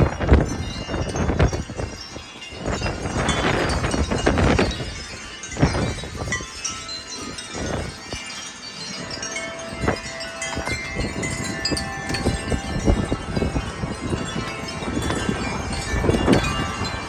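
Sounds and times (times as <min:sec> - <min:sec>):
wind chimes jangling: 0:00.0 - 0:17.0
wind gusts rumbling on microphone: 0:00.0 - 0:17.0.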